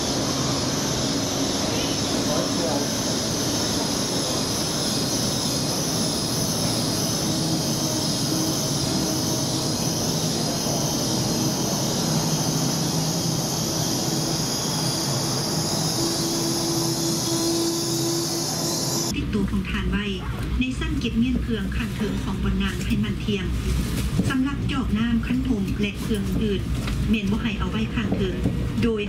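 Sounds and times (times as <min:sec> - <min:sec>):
train wheels rolling on rail: 0:00.0 - 0:19.2, 0:20.7 - 0:29.0.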